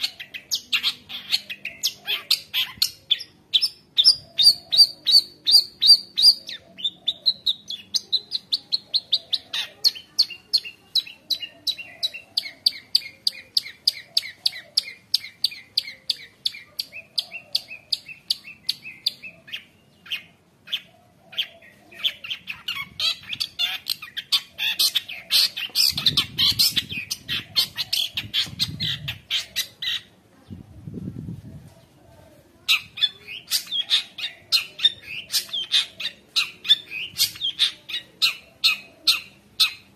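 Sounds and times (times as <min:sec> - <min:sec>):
bird chattering: 0:00.0 - 0:30.2, 0:32.6 - 0:39.9
bird singing repeated notes: 0:00.0 - 0:30.6, 0:32.7 - 0:39.9.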